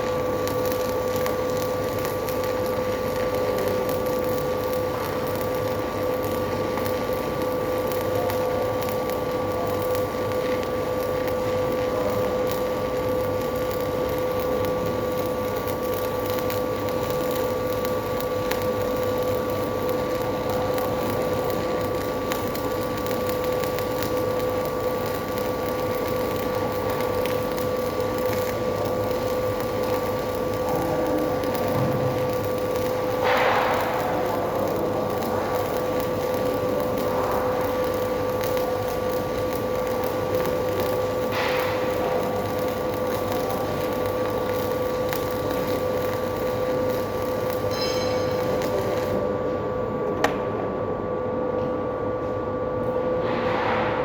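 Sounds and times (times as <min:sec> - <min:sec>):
welding arc crackling hiss: 0:00.0 - 0:49.4.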